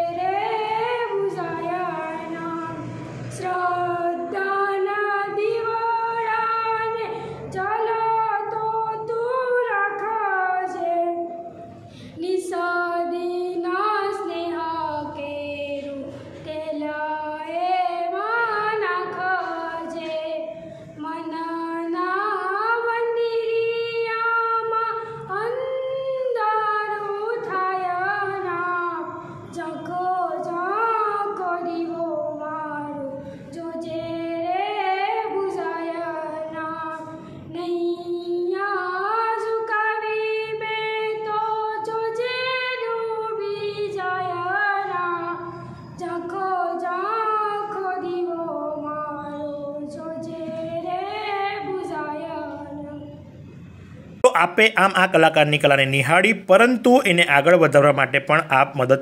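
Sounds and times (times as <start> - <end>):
girl singing unaccompanied: 0.0 - 11.4, 12.1 - 53.2.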